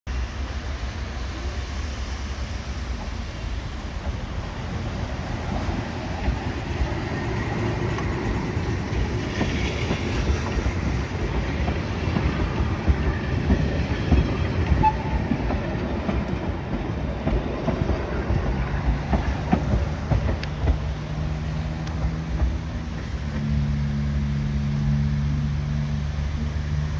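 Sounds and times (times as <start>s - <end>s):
tram rumble: 0.1s - 26.9s
tram wheels clattering over rail joints: 1.8s - 26.9s.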